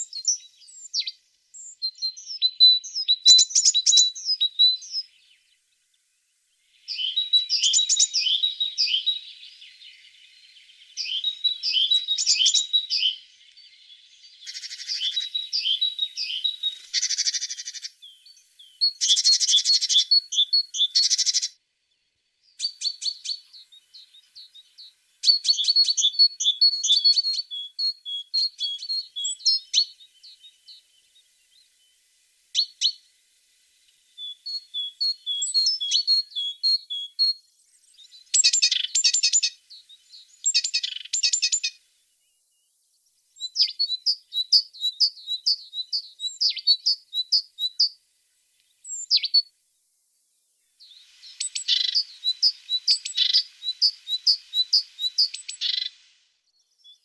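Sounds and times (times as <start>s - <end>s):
bird chirping: 0.0s - 33.1s, 33.9s - 49.6s, 50.3s - 57.0s.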